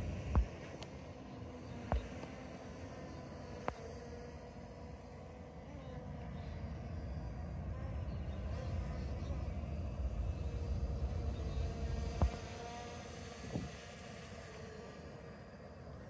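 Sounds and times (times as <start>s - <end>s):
drone propellers humming: 0.0s - 16.0s.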